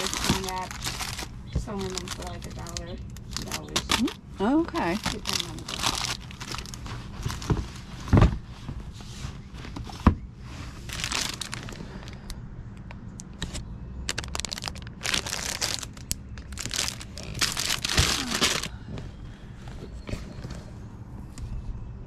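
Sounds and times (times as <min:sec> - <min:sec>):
rustling and crinkling objects: 0:00.0 - 0:21.8.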